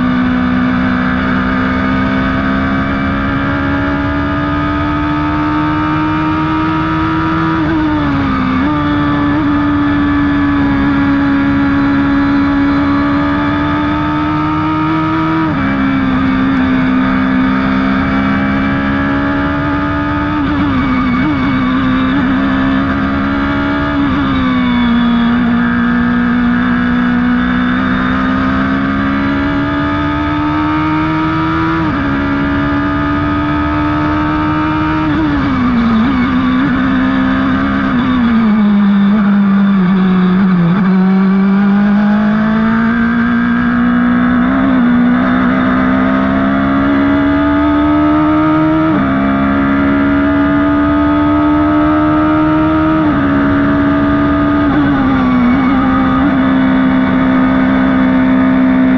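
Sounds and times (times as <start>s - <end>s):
racing car engine at full throttle: 0.0s - 58.9s.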